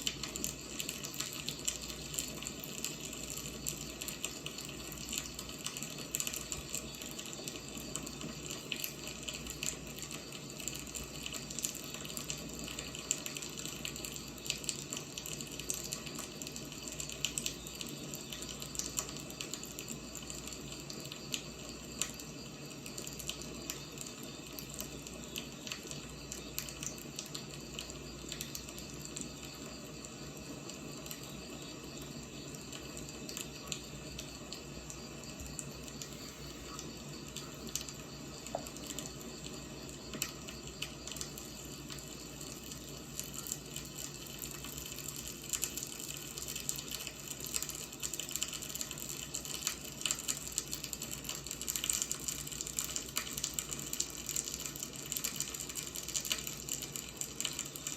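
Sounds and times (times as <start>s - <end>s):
firewood burning and crackling: 0.0s - 57.9s.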